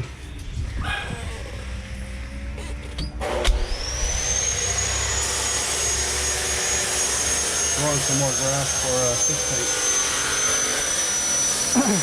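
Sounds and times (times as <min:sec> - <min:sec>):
electric power tool whining: 0:00.0 - 0:12.0.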